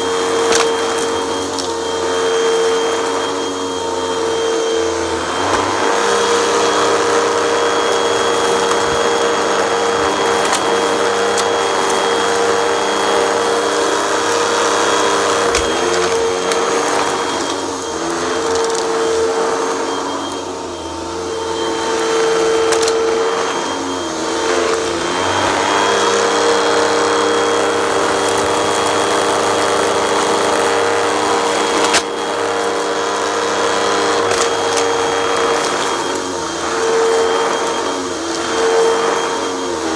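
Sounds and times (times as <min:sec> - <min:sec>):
vacuum cleaner humming on carpet: 0:00.0 - 0:39.9.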